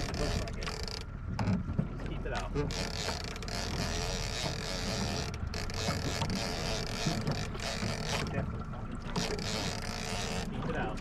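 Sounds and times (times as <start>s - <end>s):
outboard motor running: 0.0s - 11.0s
water noise: 0.0s - 11.0s.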